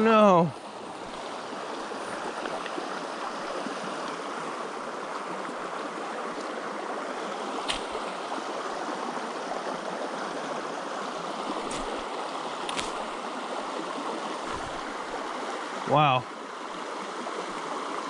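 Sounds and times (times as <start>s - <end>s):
creek flowing over rocks: 0.0s - 18.0s.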